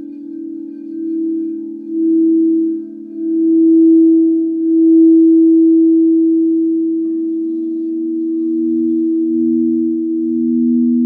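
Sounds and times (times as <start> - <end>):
low bowl tone: 0.0 - 11.0
singing bowls ringing: 0.0 - 11.0.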